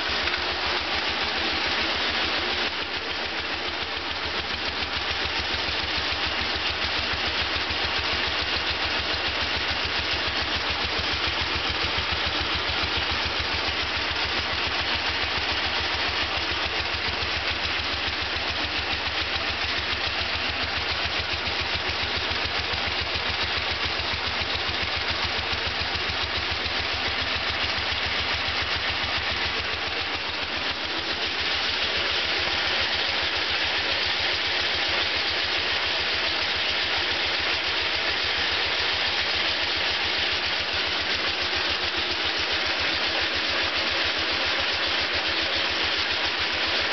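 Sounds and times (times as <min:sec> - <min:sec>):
garden tractor engine running: 0:00.0 - 0:46.9.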